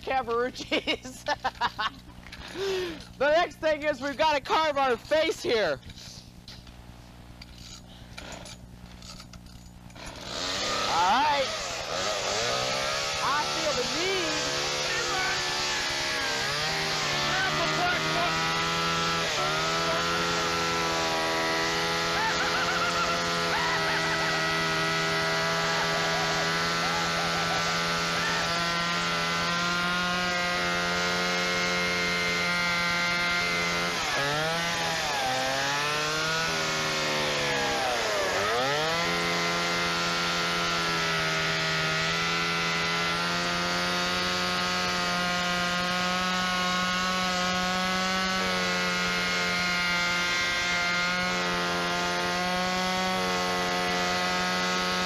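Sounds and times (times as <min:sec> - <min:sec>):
chainsaw cutting at high revs: 0:00.0 - 0:06.4, 0:07.4 - 0:55.0.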